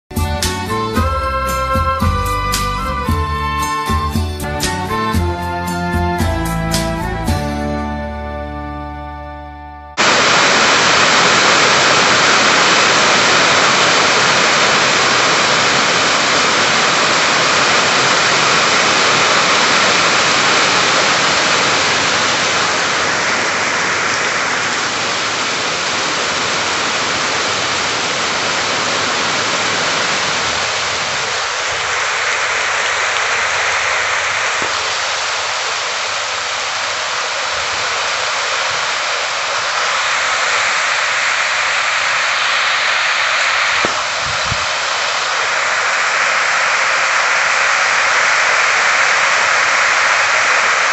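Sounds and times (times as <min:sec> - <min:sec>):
heavy rain on water: 0:10.0 - 0:50.9.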